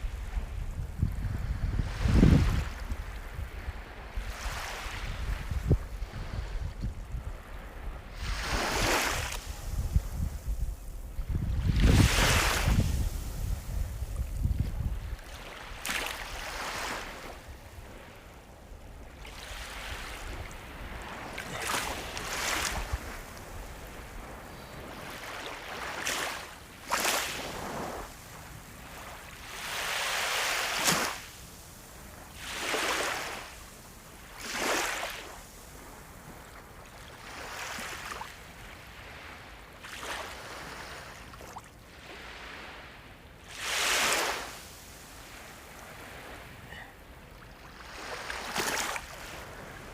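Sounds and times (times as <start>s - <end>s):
sea waves breaking: 1.4s - 49.9s.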